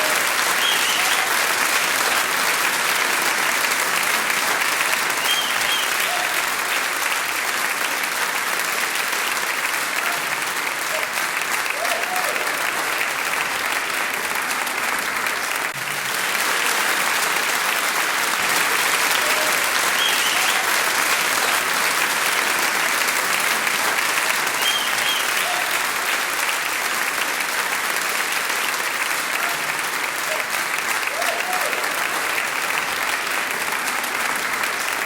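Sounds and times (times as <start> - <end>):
audience applauding: 0.0 - 35.0.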